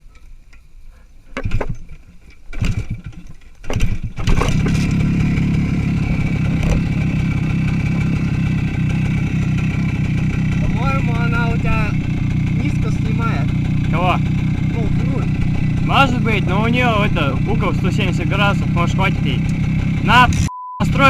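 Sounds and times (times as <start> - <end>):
motorcycle engine starting: 1.4 - 20.5.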